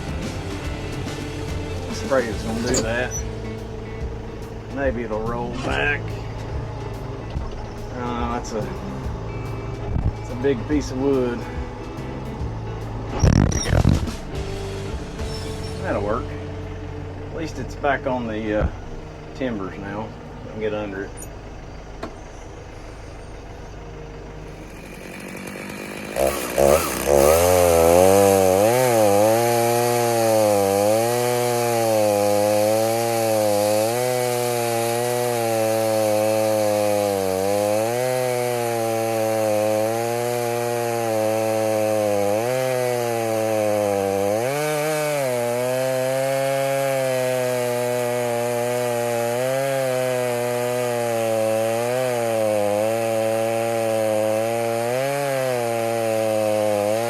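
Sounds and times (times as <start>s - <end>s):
chainsaw cutting into log: 0.0s - 16.5s, 24.4s - 57.0s.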